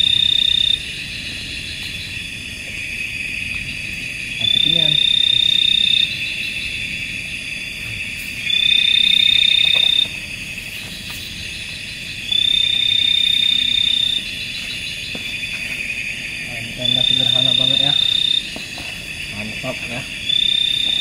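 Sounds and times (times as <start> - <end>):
frogs and insects chorus: 0.0 - 21.0.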